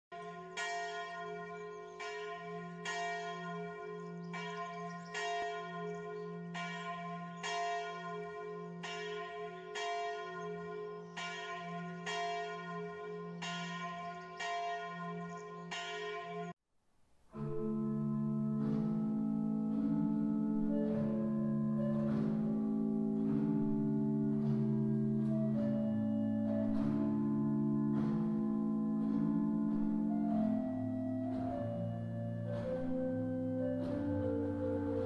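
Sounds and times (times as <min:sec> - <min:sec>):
church bell ringing: 0:00.1 - 0:16.6, 0:17.4 - 0:35.0.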